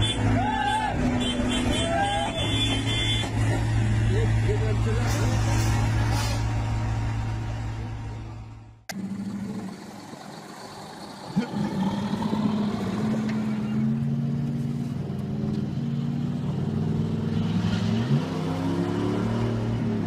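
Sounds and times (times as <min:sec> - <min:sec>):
truck diesel engine droning: 0:00.0 - 0:20.0.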